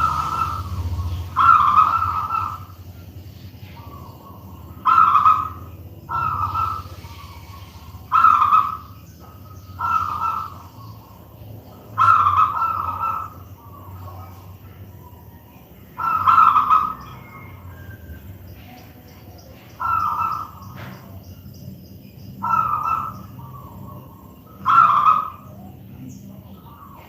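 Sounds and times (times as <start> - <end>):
dove cooing: 0.0 - 21.4, 22.0 - 27.0
steady low hum: 0.0 - 27.0.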